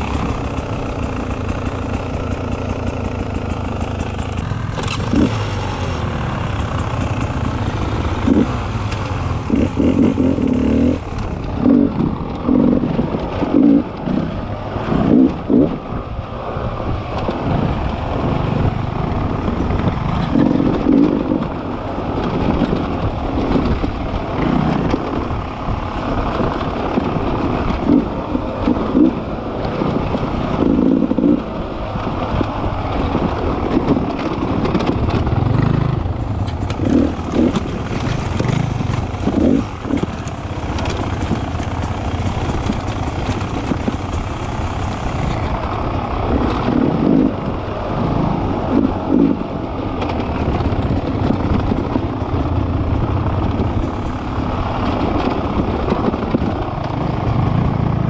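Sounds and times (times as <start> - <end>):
dirt bike engine revving: 0.0 - 16.4, 17.2 - 58.0.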